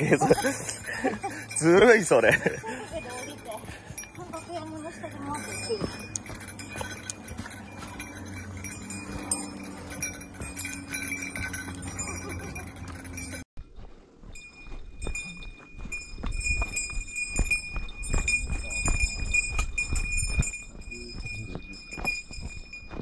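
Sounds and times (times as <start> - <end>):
footsteps on dirt trail: 0.0 - 23.0.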